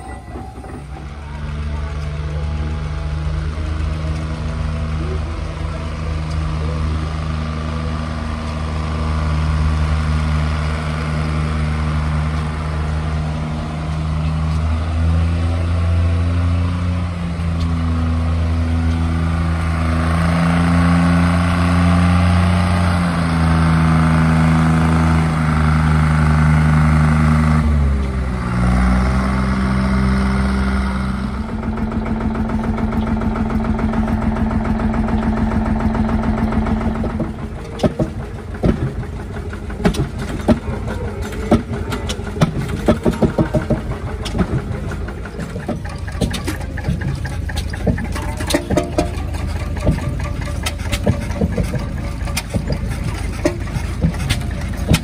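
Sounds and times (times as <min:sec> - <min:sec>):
diesel truck engine: 0:00.0 - 0:55.0
tractor engines: 0:00.0 - 0:55.0.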